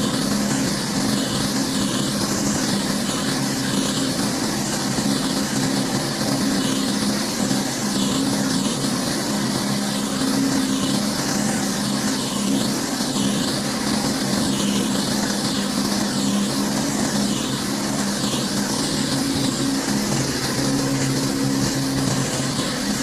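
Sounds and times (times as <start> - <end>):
high-pressure water spray hissing: 0.0 - 23.0
pressure washer engine running: 0.0 - 23.0.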